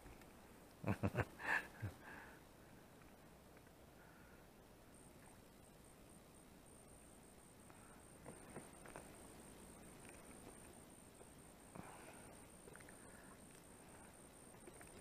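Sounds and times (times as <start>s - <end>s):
faint high pulsing whine: 0.0s - 15.0s.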